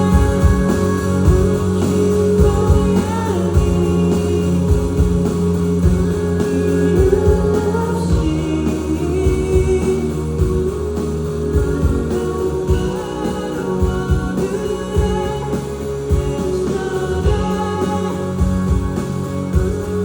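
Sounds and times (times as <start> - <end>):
live band with guitar: 0.0 - 20.0
man singing: 0.0 - 20.0.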